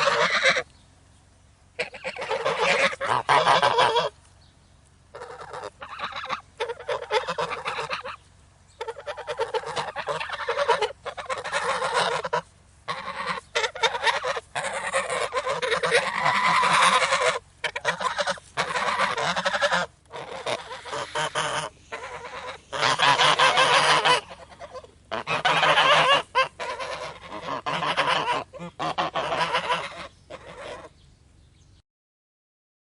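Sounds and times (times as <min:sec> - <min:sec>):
geese honking: 0:00.0 - 0:00.7, 0:01.7 - 0:04.2, 0:05.1 - 0:31.0.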